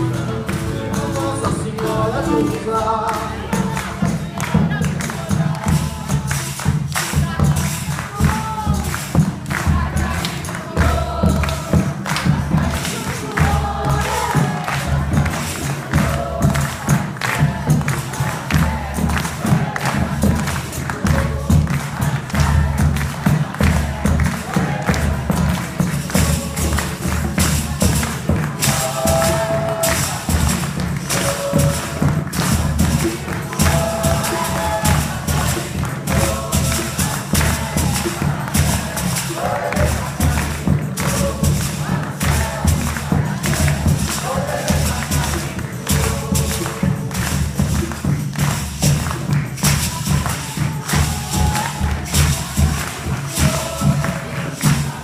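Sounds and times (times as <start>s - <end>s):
group of voices singing: 0.0s - 55.0s
hand drums: 0.0s - 55.0s
tambourine: 3.5s - 55.0s.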